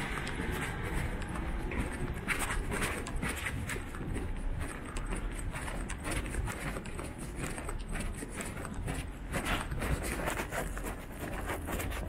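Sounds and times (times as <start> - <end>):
footsteps on pavement: 0.0 - 12.0.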